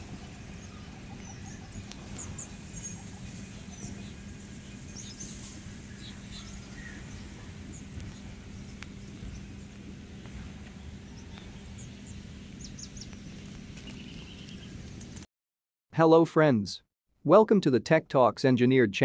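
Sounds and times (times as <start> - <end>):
continuous low rumble: 0.0 - 15.2
small birds chirping: 0.0 - 15.2
steady low hum: 0.0 - 15.2.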